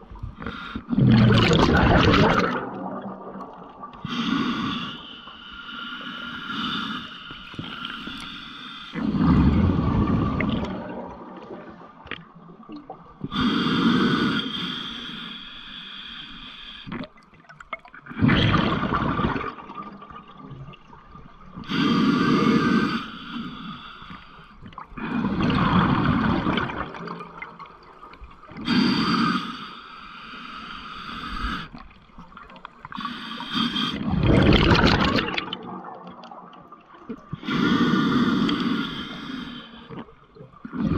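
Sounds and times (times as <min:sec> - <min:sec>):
underwater rushing and bubbling water: 0:00.0 - 0:40.9.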